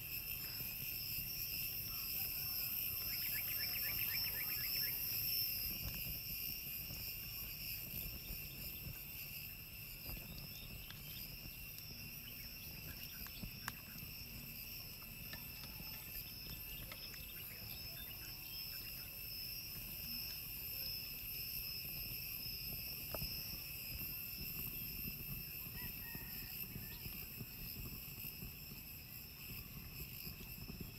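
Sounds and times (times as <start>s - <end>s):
insects buzzing shrilly: 0.0s - 30.9s.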